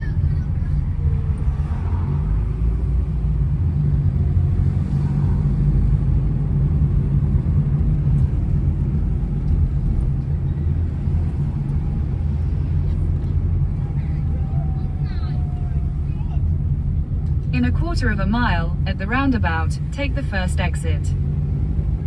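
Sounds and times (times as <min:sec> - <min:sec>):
car engine and tyre drone: 0:00.0 - 0:22.0.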